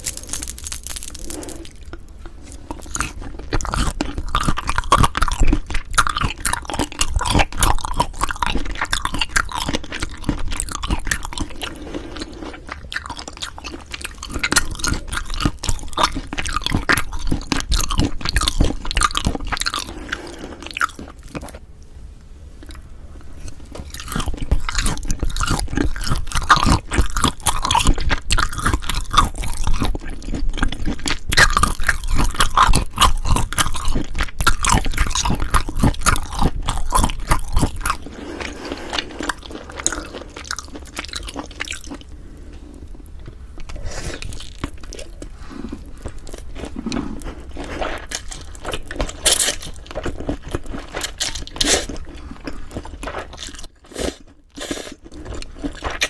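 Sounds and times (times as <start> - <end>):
wet crackly chewing: 1.4 - 21.6, 22.6 - 56.0.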